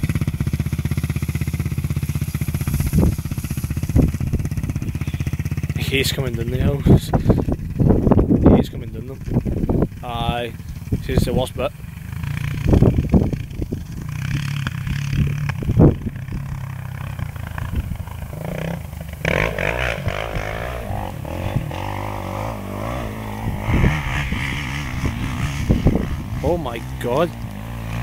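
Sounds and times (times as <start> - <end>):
off-road engine running: 0.0 - 28.0.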